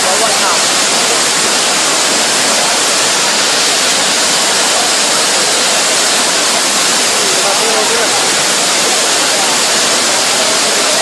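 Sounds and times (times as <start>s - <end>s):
rushing flood water: 0.0s - 11.0s.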